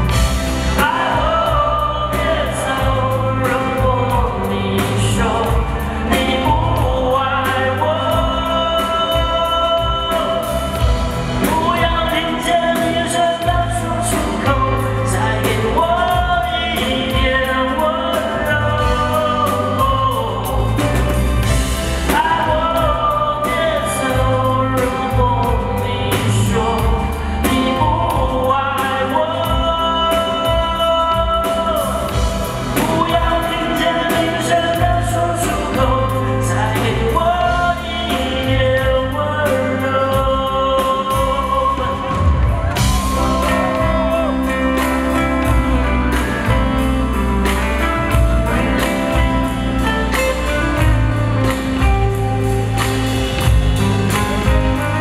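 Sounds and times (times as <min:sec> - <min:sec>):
live band playing: 0:00.0 - 0:55.0
man singing pop ballad: 0:00.0 - 0:55.0.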